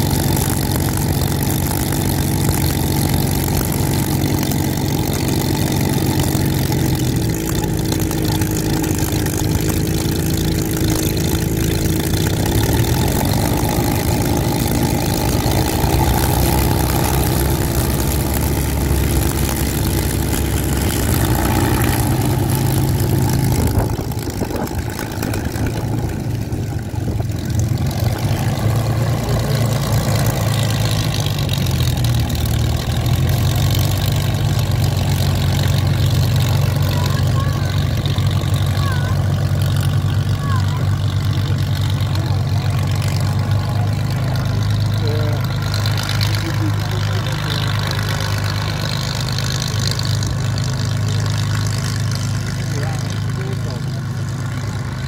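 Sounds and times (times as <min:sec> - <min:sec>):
propeller aircraft engine idling: 0:00.0 - 0:55.0.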